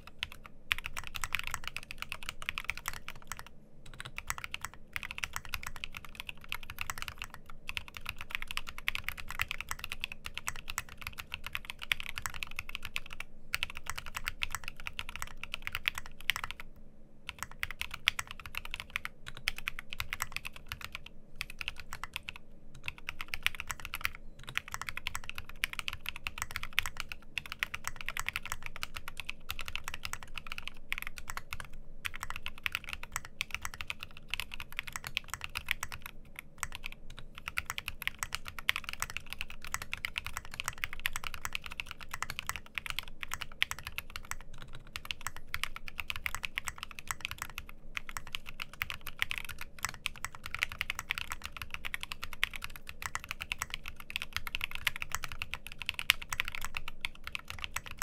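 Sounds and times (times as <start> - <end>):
fast mechanical keyboard typing: 0.0 - 16.7, 17.3 - 58.0.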